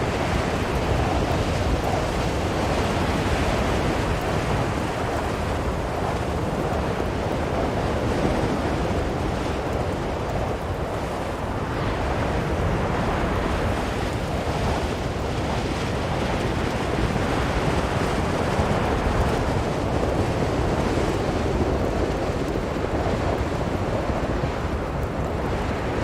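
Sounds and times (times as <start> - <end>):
strong blizzard wind: 0.0 - 26.0.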